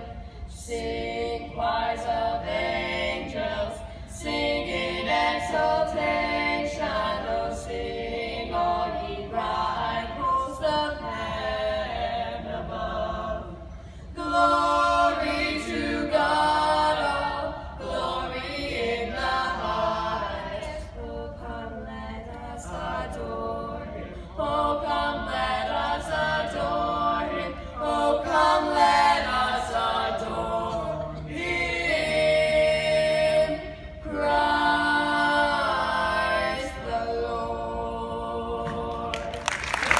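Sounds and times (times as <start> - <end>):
boys singing a cappella: 0.0 - 39.9.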